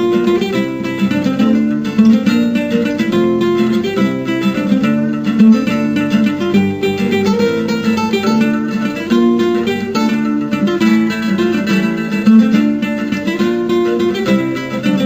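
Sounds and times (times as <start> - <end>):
acoustic guitar ringtone: 0.0 - 15.0.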